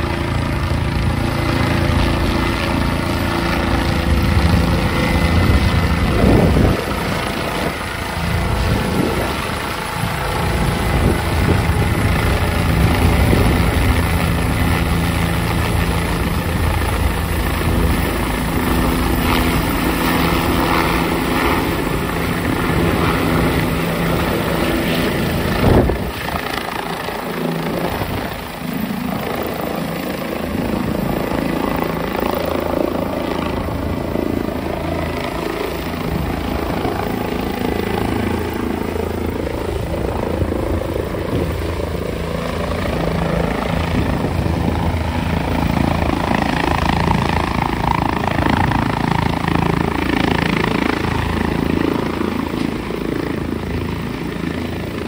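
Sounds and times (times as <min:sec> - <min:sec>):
helicopter rotor beating: 0:00.0 - 0:55.0
high turbine whine: 0:00.0 - 0:55.0.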